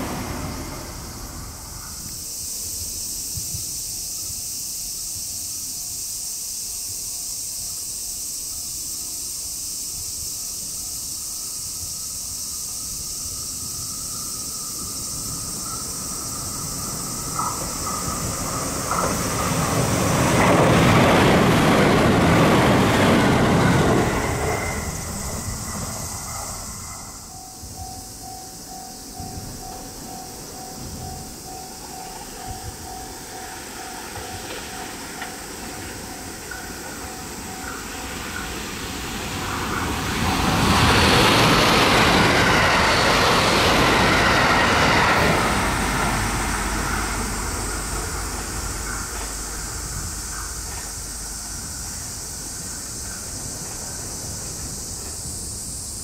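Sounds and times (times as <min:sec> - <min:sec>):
steady high hiss: 0:00.0 - 0:56.0
train wheels on rails: 0:00.0 - 0:56.0
level-crossing warning bell: 0:01.9 - 0:54.7.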